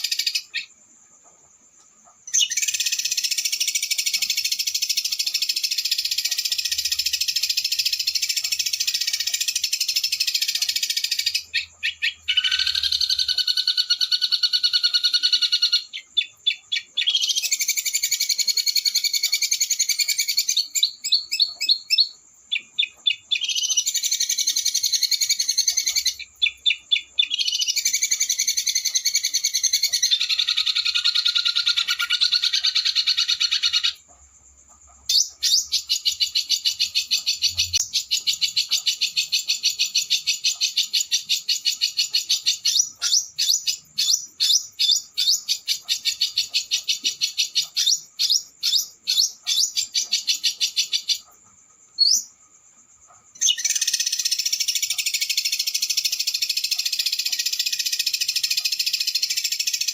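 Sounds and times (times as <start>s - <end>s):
songbird trilling: 0.0s - 0.8s, 2.2s - 34.1s, 35.0s - 51.4s, 53.3s - 59.9s.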